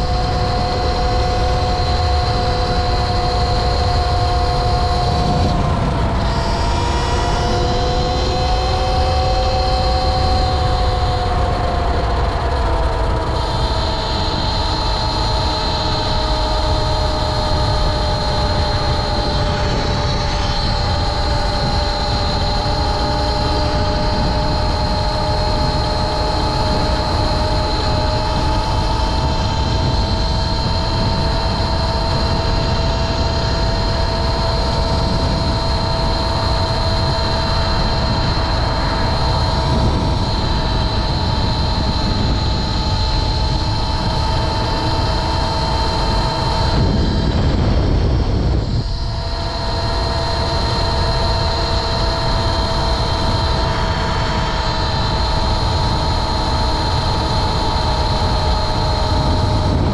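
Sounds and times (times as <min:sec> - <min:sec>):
electric motor whining: 0:00.0 - 0:59.9
wind and road noise: 0:00.0 - 0:59.9.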